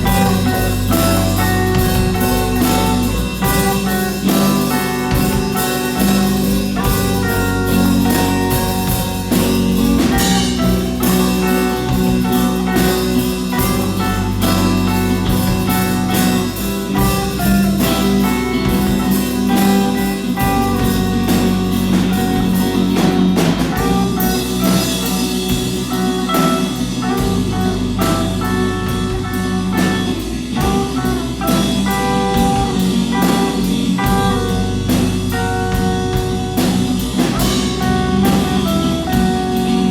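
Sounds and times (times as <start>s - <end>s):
band playing: 0.0s - 39.9s
drum kit beat: 0.0s - 39.9s
guitar: 0.0s - 39.9s
low bass notes: 0.0s - 39.9s.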